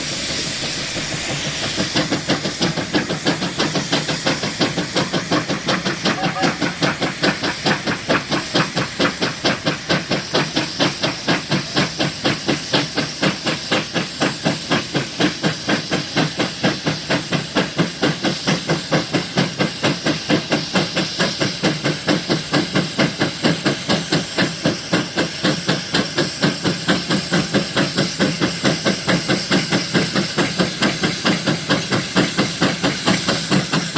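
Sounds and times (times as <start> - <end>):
steam engine exhaust chuffing: 0.0 - 33.9
steam hissing: 0.0 - 33.9.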